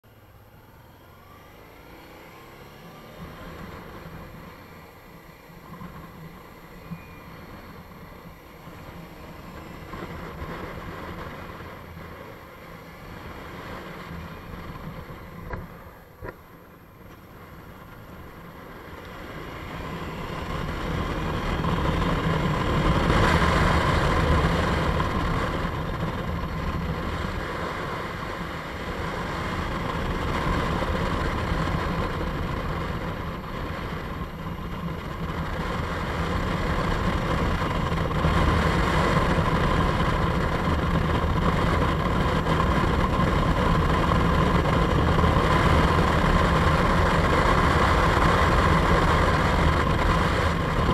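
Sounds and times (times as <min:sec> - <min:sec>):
motorcycle engine: 0:00.0 - 0:50.9
wind and road noise: 0:00.0 - 0:50.9.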